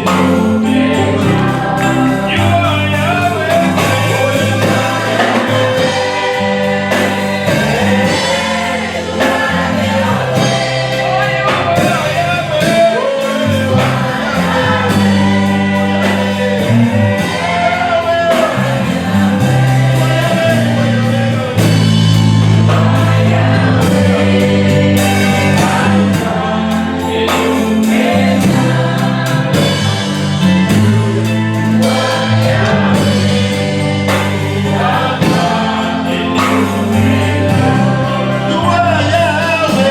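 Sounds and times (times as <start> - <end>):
band with bass and drums: 0.0 - 39.9
congregation and choir singing: 0.0 - 39.9.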